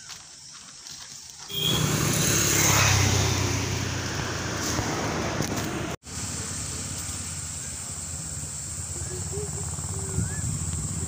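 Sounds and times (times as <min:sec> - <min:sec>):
vehicle engine rumble: 0:01.5 - 0:11.0.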